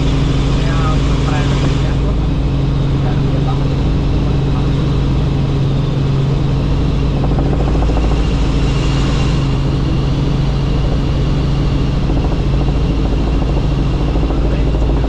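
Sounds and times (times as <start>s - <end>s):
faint high turbine whine: 0.0s - 15.0s
helicopter drone: 0.0s - 15.0s.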